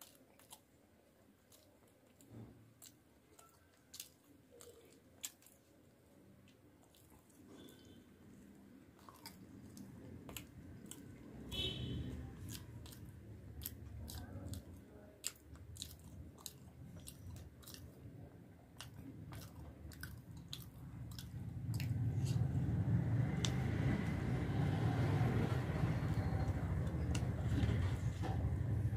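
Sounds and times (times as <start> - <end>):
person chewing with wet smacks: 0.0 - 28.9.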